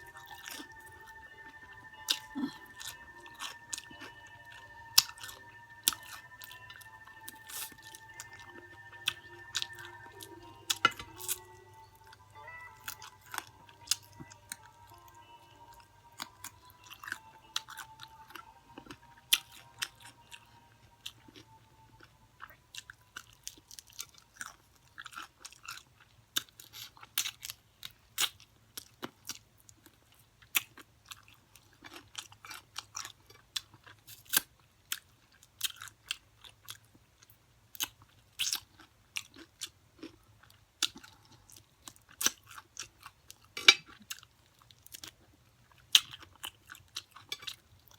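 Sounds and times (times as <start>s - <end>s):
chewing crispy fried chicken: 0.0s - 47.9s.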